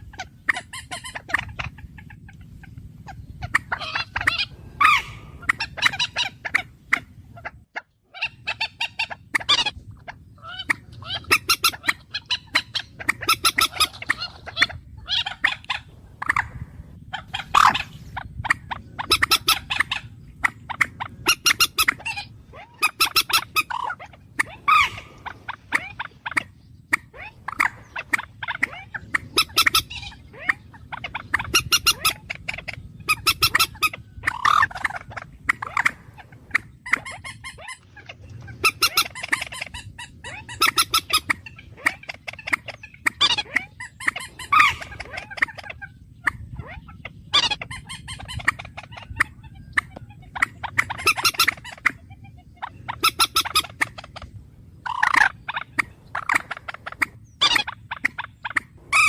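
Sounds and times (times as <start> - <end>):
bird calling in rapid notes: 0.0 - 59.0.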